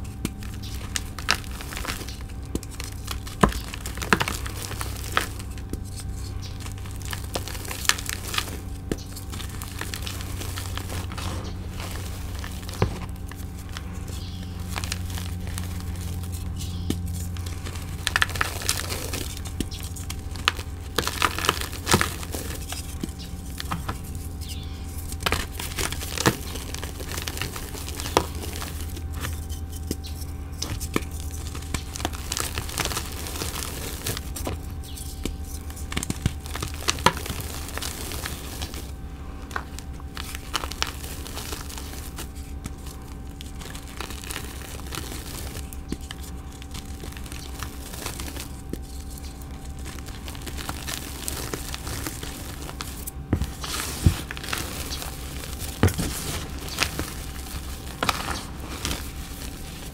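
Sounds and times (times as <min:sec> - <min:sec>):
chalk crunching and crumbling: 0:00.0 - 0:59.9
low steady hum: 0:00.0 - 0:59.9.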